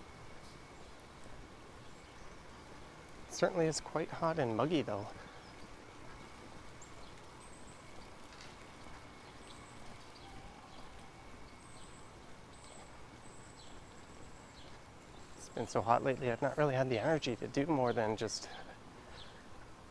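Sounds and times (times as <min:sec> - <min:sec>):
low outdoor background: 0:00.0 - 0:19.9.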